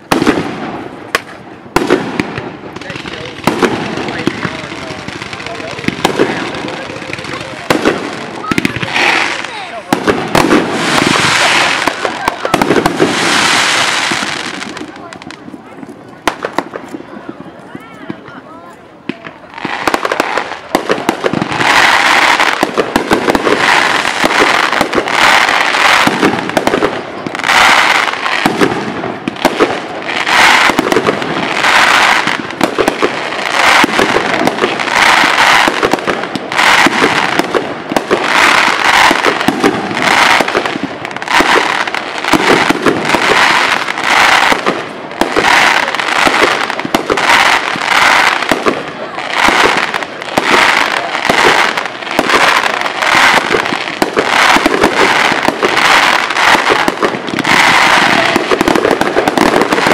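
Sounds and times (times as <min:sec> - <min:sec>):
fireworks crackling barrage: 0:00.0 - 0:59.9.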